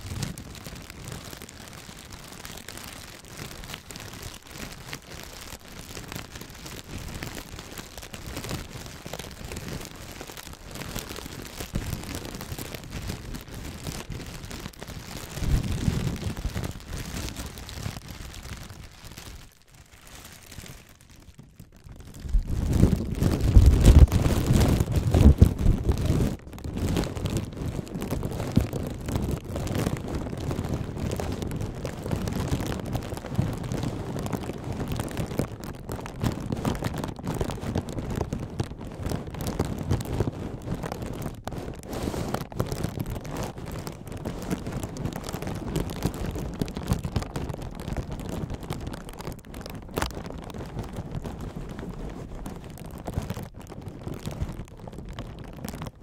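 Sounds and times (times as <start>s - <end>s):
plastic packaging crackling: 0.0s - 56.0s
plastic rubbing on microphone: 0.0s - 56.0s.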